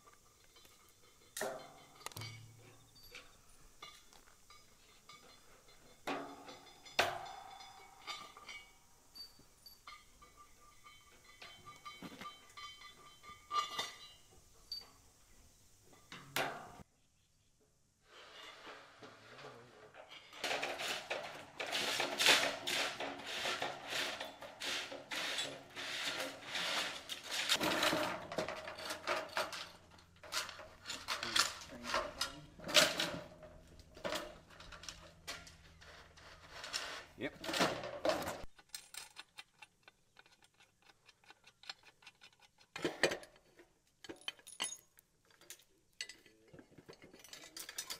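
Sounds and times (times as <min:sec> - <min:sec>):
metal parts clinking: 0:00.3 - 0:15.0, 0:20.1 - 0:43.4, 0:44.0 - 0:47.9.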